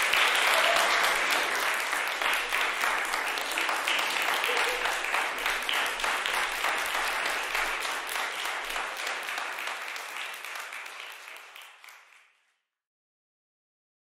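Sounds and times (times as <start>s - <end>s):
audience applause: 0.0s - 12.4s.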